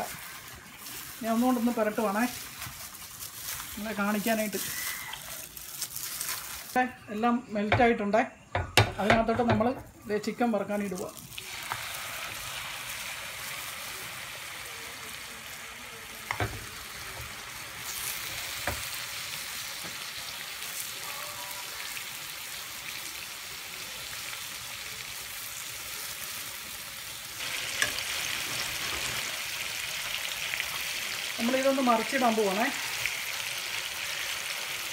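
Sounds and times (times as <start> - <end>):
chicken sizzling in a pan: 0.0 - 6.8, 10.4 - 34.9.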